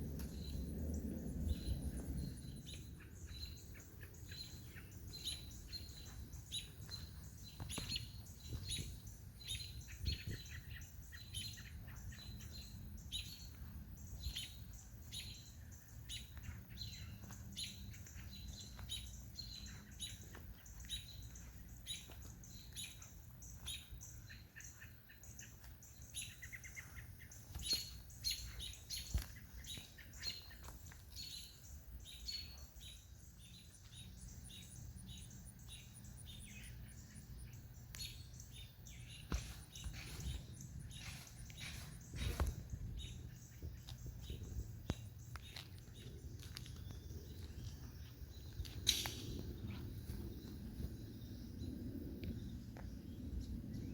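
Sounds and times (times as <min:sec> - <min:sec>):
low steady rumble: 0:00.0 - 0:53.9
small birds chirping: 0:00.0 - 0:53.9.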